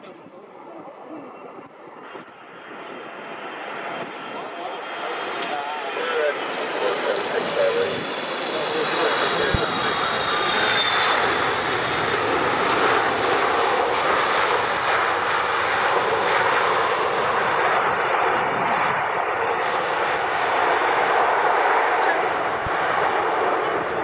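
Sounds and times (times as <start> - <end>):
jet engine rushing: 1.5 - 24.0.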